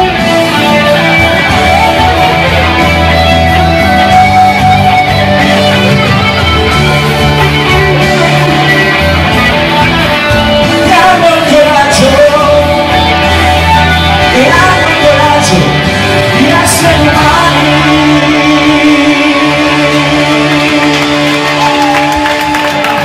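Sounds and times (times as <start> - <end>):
backing track with bass line: 0.0 - 23.0
electric guitar melody: 0.0 - 23.0.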